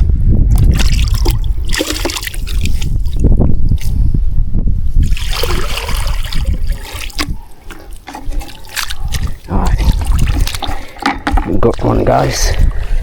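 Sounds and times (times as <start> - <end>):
water splashing and trickling: 0.5 - 4.0, 5.0 - 12.8.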